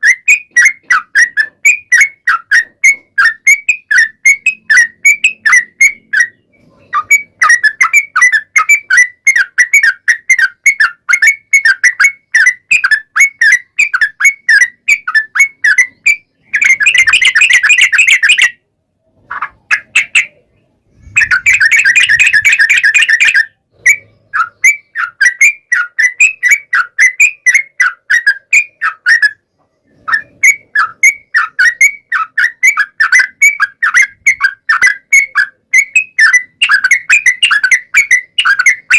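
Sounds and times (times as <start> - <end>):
bird harsh chattering: 0.0 - 18.6, 19.2 - 38.9
bird song bubbly whistled notes: 0.0 - 18.7, 19.3 - 38.9.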